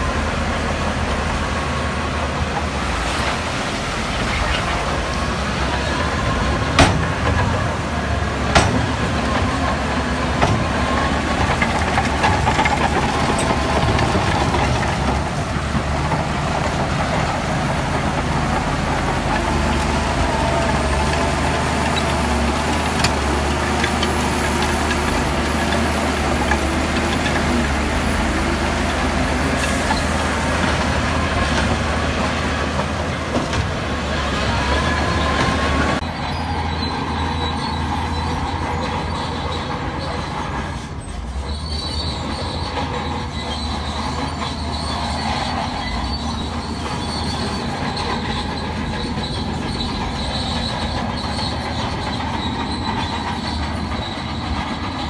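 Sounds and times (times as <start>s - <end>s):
diesel earthmoving machinery running: 0.0s - 55.0s.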